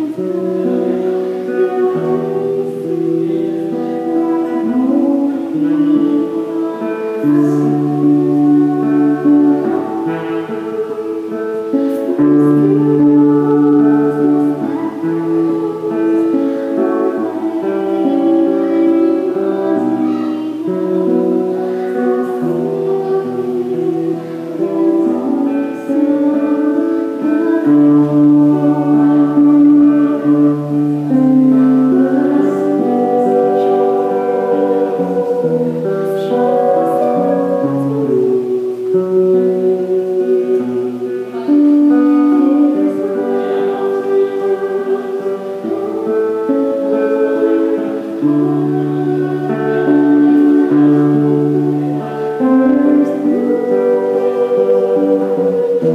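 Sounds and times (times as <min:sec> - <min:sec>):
acoustic guitar: 0:00.0 - 0:55.9
woman singing: 0:00.0 - 0:55.9.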